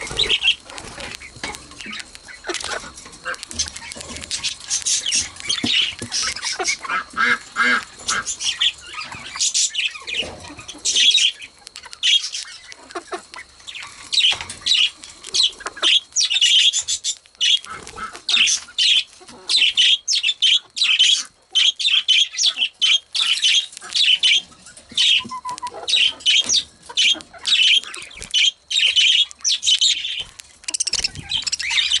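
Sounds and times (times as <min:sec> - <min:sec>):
budgerigars squawking and chattering: 0:00.0 - 0:32.0.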